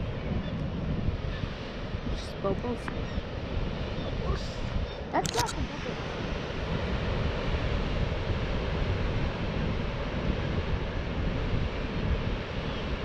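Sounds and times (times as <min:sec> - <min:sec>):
ocean surf breaking: 0:00.0 - 0:13.0
strong wind buffeting microphone: 0:00.0 - 0:13.0.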